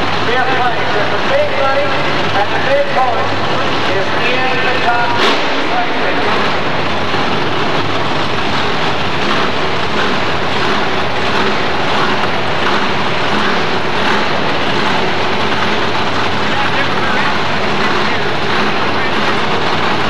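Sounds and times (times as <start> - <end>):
jeep engine running: 0.0 - 20.0
wheel loader engine: 0.0 - 20.0.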